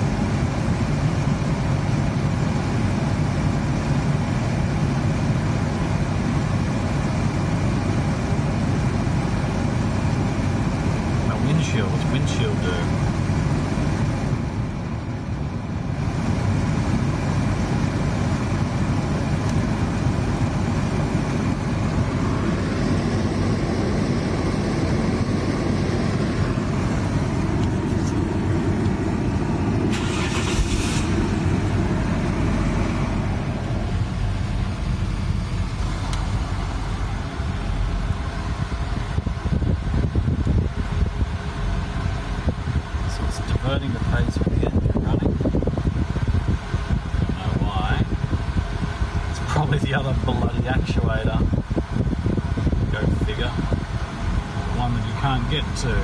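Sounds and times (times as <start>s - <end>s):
car engine idling: 0.0s - 56.0s
climate control fan blowing: 0.0s - 56.0s.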